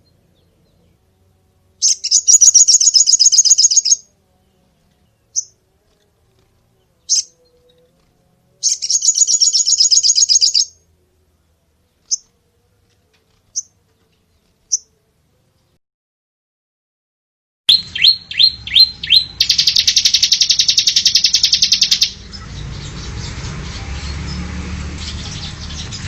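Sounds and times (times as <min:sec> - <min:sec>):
songbird chirping and trilling: 0:00.0 - 0:15.8, 0:17.7 - 0:26.0.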